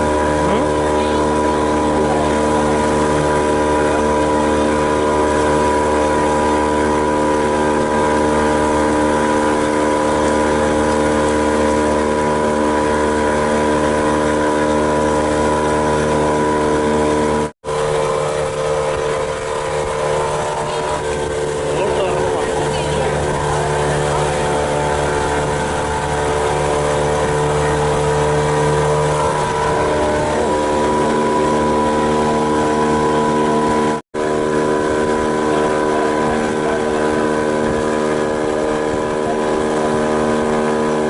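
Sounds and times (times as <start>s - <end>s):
boat engine humming: 0.0s - 41.0s
water wash: 0.0s - 41.0s.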